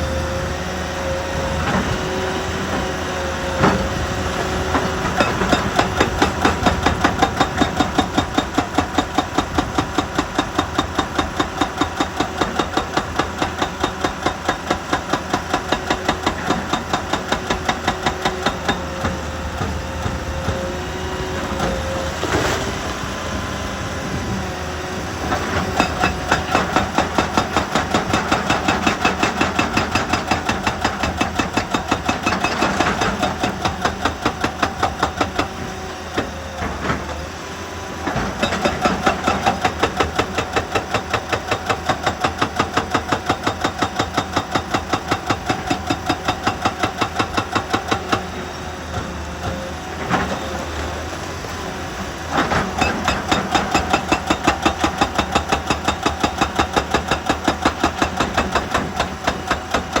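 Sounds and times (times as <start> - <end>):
excavator diesel engine running: 0.0 - 60.0
hydraulic rock breaker hammering: 1.4 - 24.3, 24.9 - 60.0.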